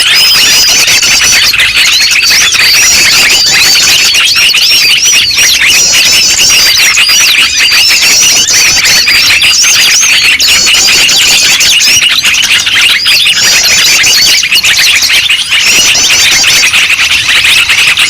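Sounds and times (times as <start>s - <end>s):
chorus of small birds chattering: 0.0s - 18.0s.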